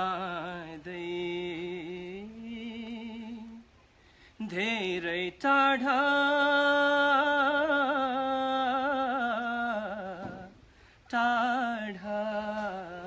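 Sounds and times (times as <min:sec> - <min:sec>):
man singing unaccompanied: 0:00.0 - 0:03.8, 0:04.4 - 0:13.0.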